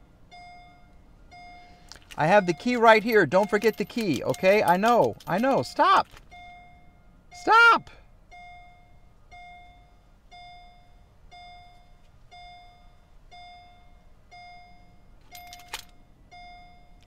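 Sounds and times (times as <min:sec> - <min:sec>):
car warning chime dinging: 0:00.0 - 0:17.0.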